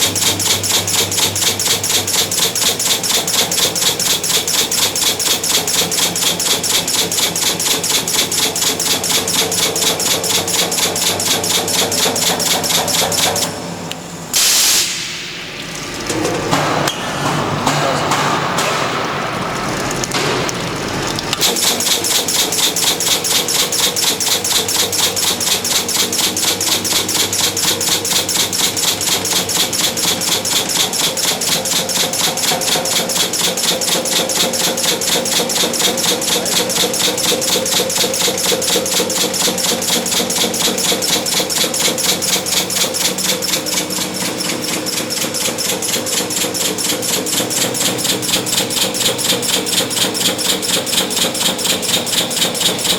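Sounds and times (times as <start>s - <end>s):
welding machine pulses: 0.0s - 16.1s, 18.9s - 52.9s.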